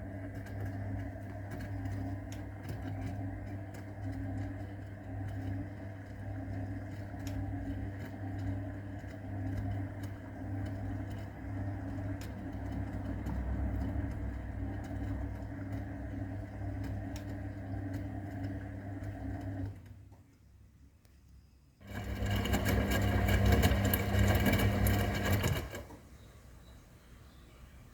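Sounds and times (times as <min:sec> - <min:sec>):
washing machine motor humming: 0:00.0 - 0:20.2, 0:21.8 - 0:27.9.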